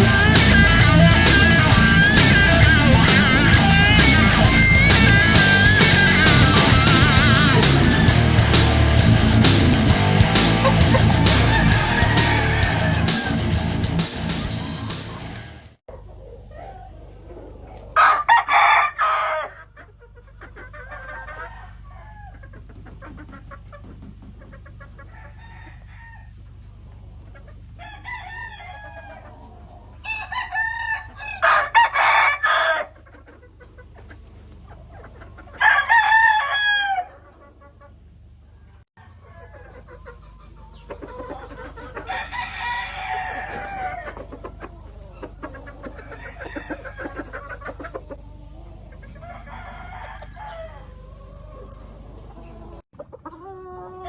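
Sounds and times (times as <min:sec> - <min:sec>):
roosters crowing: 0:00.0 - 0:19.9, 0:20.6 - 0:23.4, 0:24.8 - 0:33.4, 0:34.8 - 0:37.6, 0:38.5 - 0:52.8.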